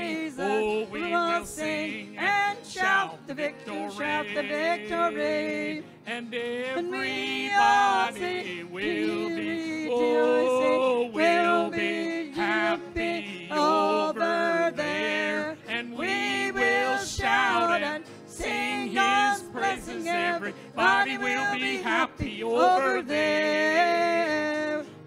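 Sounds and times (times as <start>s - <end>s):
acoustic guitar: 0.0s - 25.0s
man and woman singing hymn: 0.0s - 25.0s.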